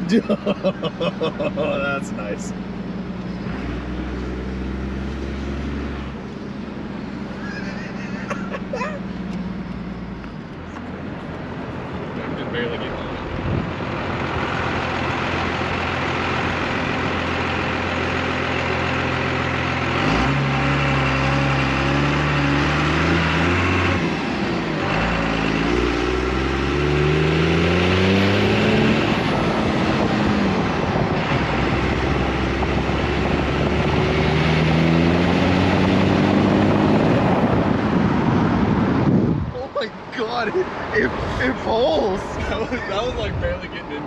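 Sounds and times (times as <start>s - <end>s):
diesel truck engine accelerating: 0.0s - 44.0s.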